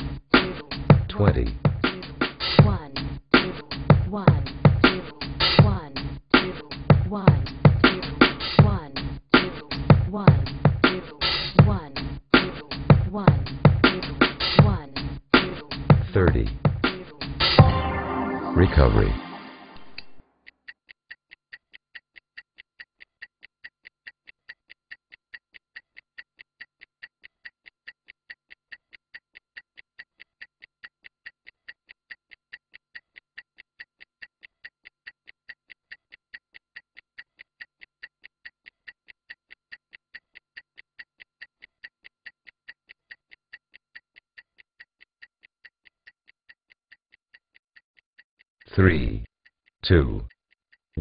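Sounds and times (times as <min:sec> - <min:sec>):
stopwatch ticking: 0:00.0 - 0:17.6, 0:20.4 - 0:51.0.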